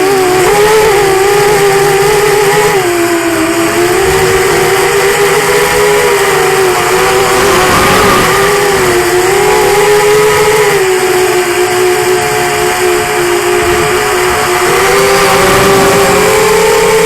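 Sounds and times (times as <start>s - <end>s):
quadcopter propellers whining: 0.0s - 17.0s.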